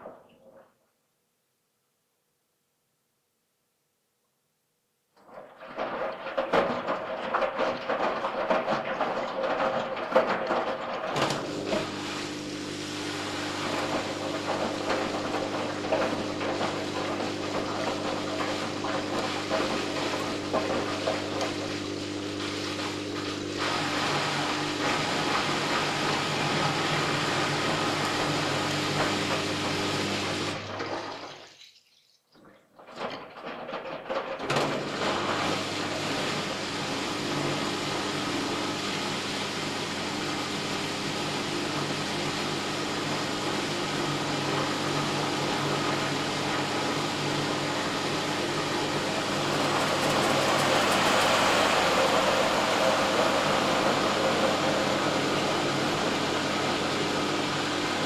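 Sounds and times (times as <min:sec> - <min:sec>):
washing machine motor hum: 0:05.2 - 0:31.8, 0:32.4 - 0:58.0
washing machine water rushing: 0:05.2 - 0:58.0.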